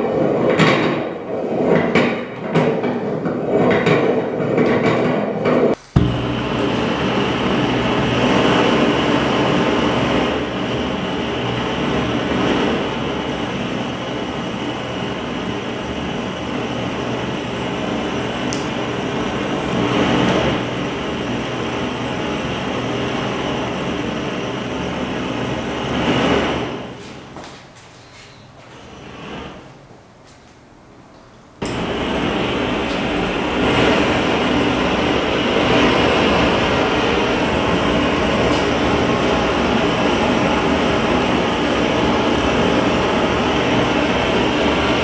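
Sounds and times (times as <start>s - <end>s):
blowtorch flame rushing: 0.0s - 27.4s, 28.1s - 29.8s, 31.6s - 45.0s.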